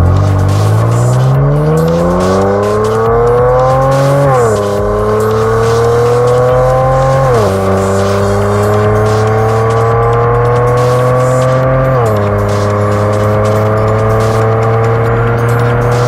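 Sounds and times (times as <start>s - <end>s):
car engine accelerating: 0.0s - 16.0s
gear upshift: 0.0s - 16.0s.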